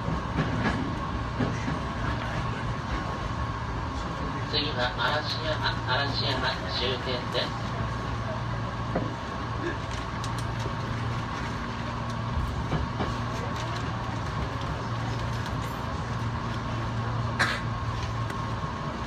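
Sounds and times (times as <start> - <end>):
electric train running hum: 0.0 - 19.0
wheel noise on rails: 0.0 - 19.0.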